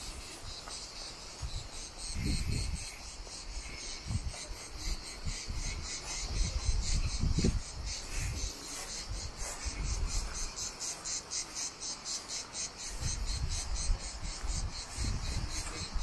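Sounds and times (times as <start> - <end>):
insects shrilling in pulses: 0.0 - 16.0.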